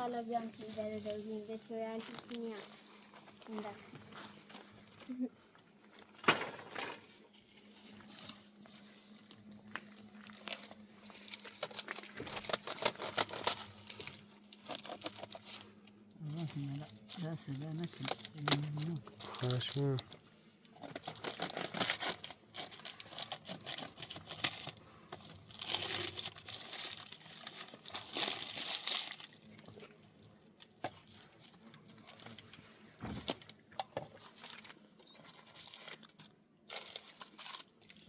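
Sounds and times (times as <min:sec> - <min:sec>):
rustling and scraping materials: 0:00.0 - 0:38.0.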